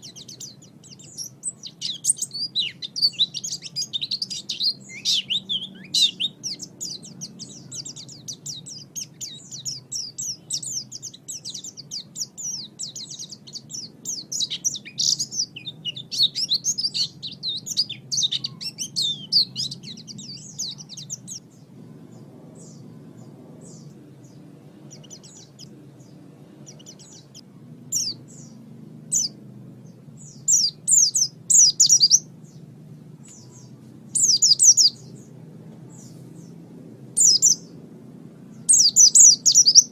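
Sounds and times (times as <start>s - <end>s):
bird twittering song: 0.0s - 39.9s
faint low hum: 0.0s - 39.9s.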